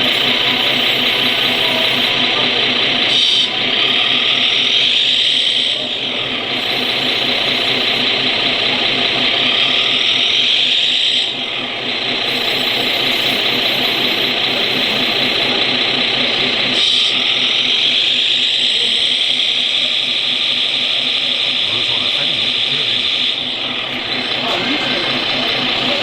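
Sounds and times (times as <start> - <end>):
fast low chugging: 0.0 - 26.0
model truck motor whine: 0.0 - 26.0.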